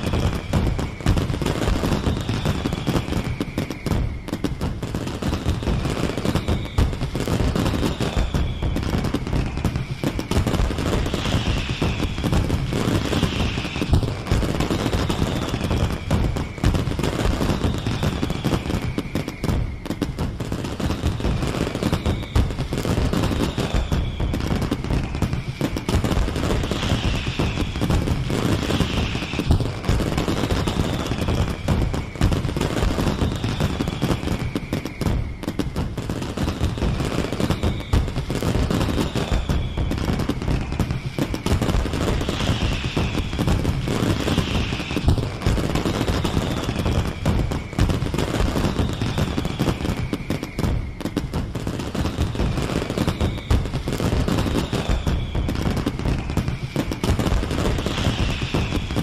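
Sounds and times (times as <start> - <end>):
falling firework whistles: 0.0 - 59.0
fireworks bangs and crackles: 0.0 - 59.0.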